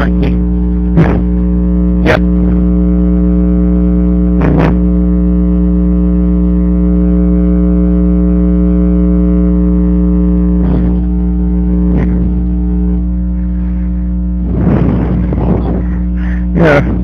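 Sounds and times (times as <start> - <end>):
electrical hum and buzz: 0.0 - 17.0.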